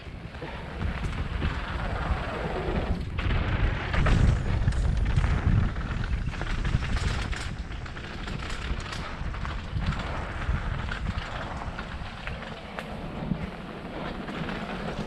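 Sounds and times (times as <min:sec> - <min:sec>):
bike clattering over bumps: 0:00.0 - 0:15.0
wind buffeting microphone: 0:00.0 - 0:15.0.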